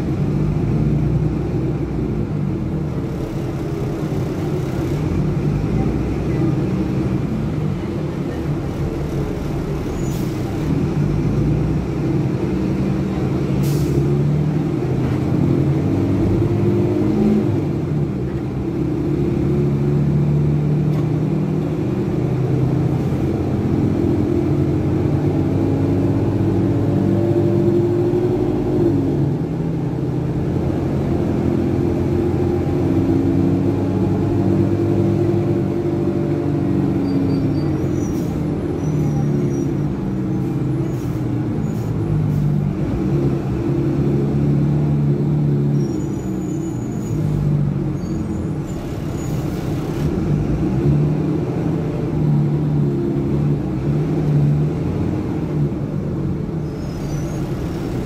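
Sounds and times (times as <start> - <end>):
bus diesel engine pulling away: 0.0 - 58.0.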